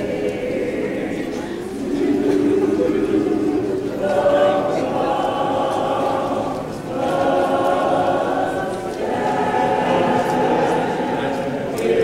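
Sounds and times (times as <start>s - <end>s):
church choir singing: 0.0s - 12.0s.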